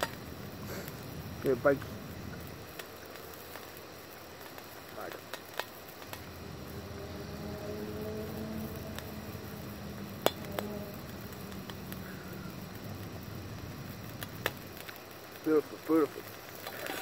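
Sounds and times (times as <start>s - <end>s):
faint sizzling: 0.0s - 17.0s
gas stove hissing: 0.0s - 17.0s
sharp metallic ticks: 1.7s - 17.0s.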